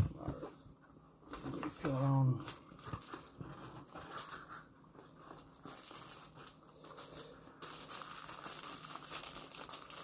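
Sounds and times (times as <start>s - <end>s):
hand rustling packing material: 1.2s - 10.0s.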